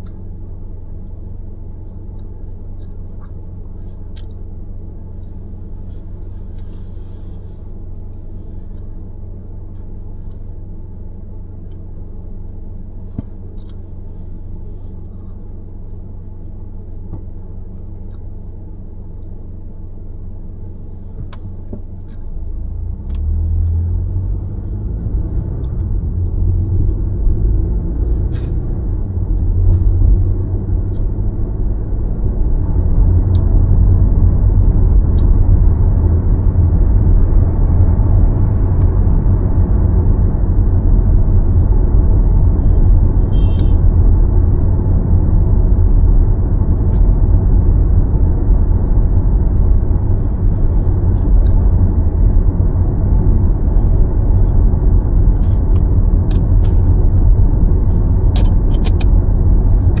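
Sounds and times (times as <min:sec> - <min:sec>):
road and tyre noise: 0:00.0 - 1:00.0.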